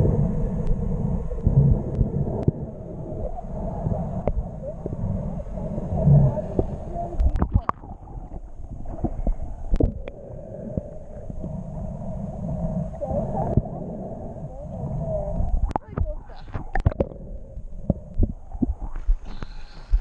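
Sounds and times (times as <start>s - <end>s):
muffled underwater rumble and gurgling: 0.0s - 20.0s.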